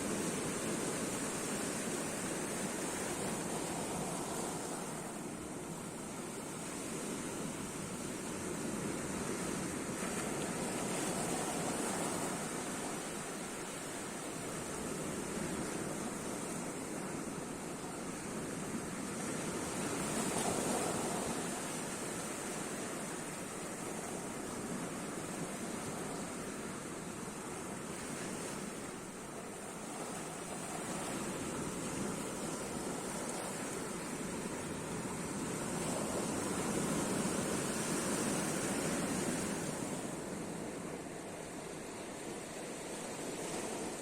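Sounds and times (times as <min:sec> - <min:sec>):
sea waves washing onto shore: 0:00.0 - 0:44.0.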